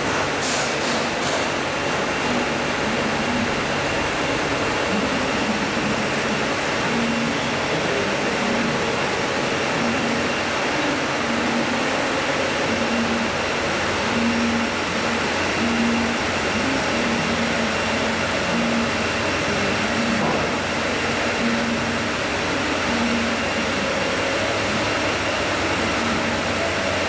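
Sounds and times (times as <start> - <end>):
whirring machine: 0.0 - 27.0.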